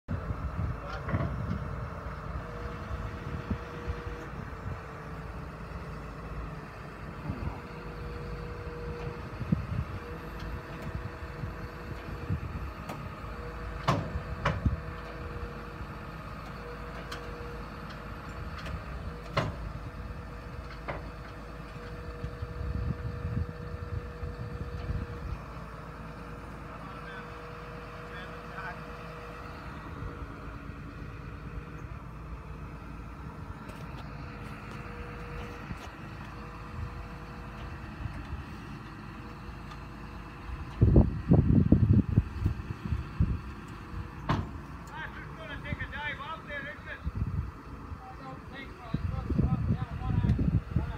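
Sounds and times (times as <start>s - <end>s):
diesel engines running: 0.0s - 50.9s.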